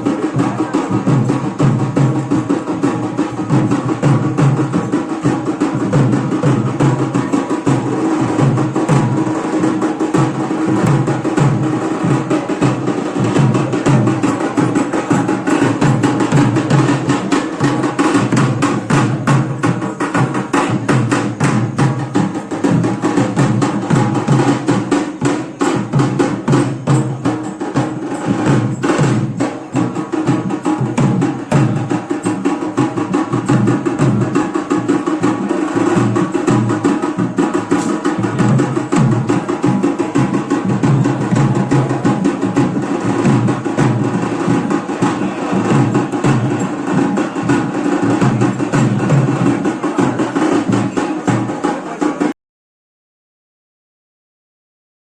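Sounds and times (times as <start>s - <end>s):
fast dense drumming: 0.0s - 52.3s.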